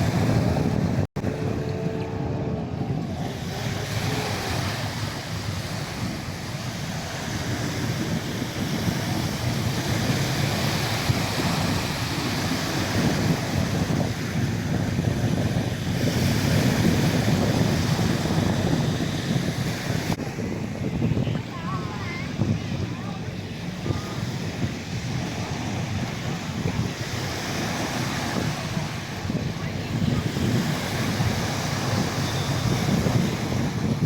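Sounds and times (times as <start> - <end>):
rush of sea water: 0.0 - 34.0
wind buffeting microphone: 0.0 - 34.0.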